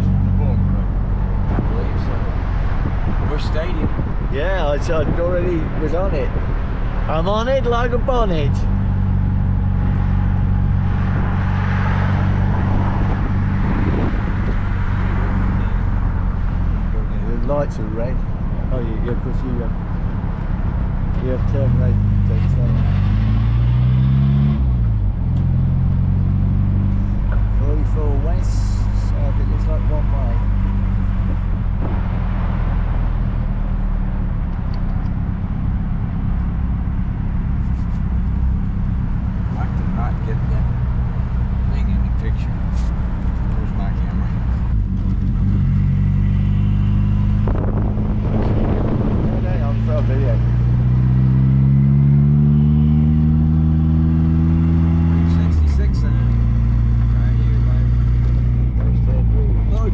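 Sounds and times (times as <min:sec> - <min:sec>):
car engine running: 0:00.0 - 0:59.9
road and wind noise: 0:00.0 - 0:59.9.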